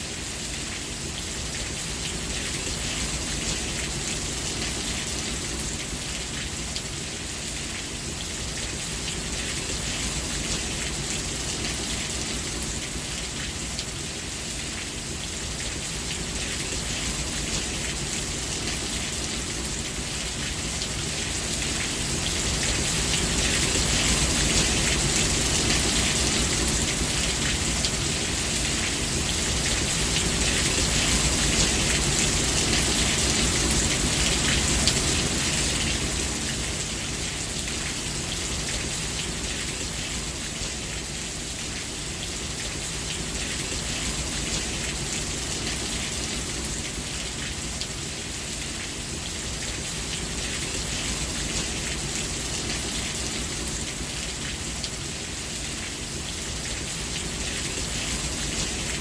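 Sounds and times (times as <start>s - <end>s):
rain pattering: 0.2s - 59.0s.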